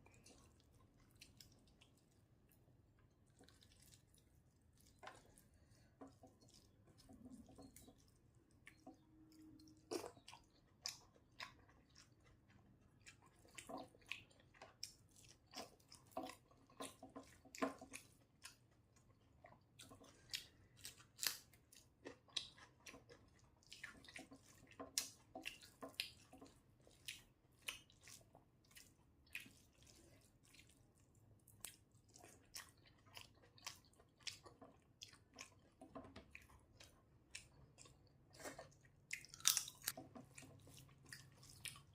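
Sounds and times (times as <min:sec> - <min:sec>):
person chewing: 0:00.0 - 0:41.9.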